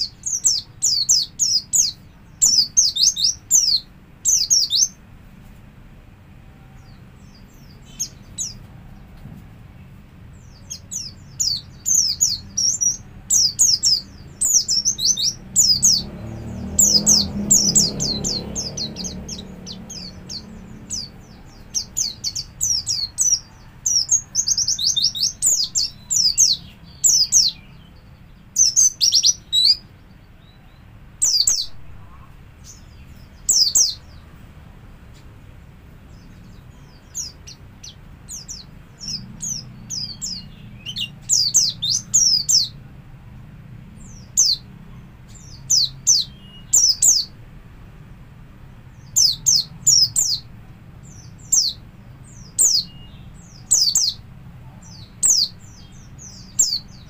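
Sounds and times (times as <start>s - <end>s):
bird singing high chirps: 0.0s - 5.0s, 10.3s - 34.3s, 36.0s - 42.9s, 44.0s - 47.4s, 49.0s - 57.0s.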